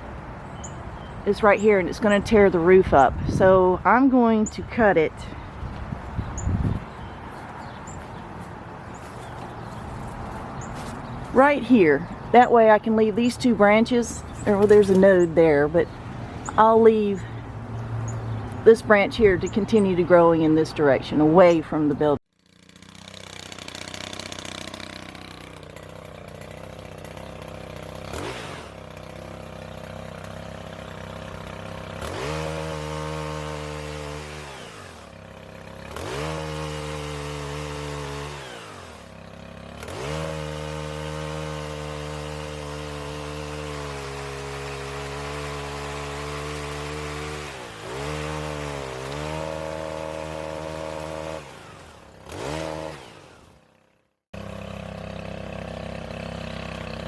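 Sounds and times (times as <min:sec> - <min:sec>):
pole chainsaw idling and revving: 0:06.8 - 0:18.7, 0:22.3 - 0:57.0.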